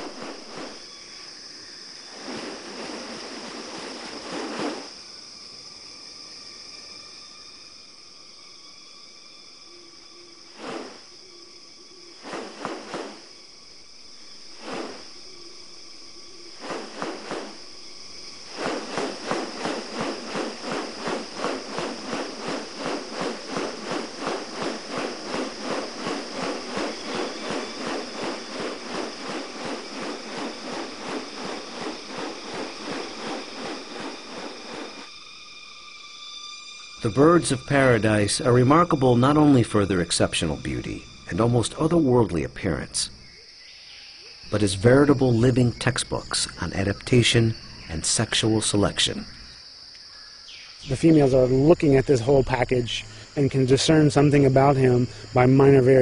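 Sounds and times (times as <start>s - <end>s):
insects trilling: 0.0s - 56.0s
loud pulsing insect sound: 0.0s - 56.0s.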